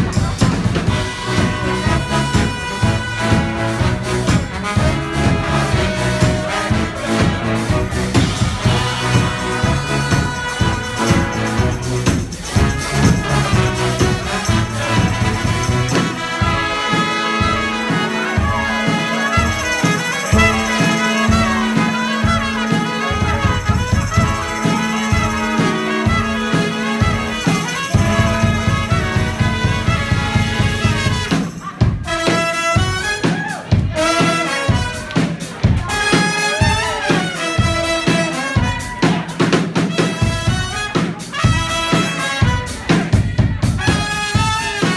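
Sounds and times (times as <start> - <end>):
brass band playing: 0.0 - 44.9
steady drumbeat: 0.0 - 44.9.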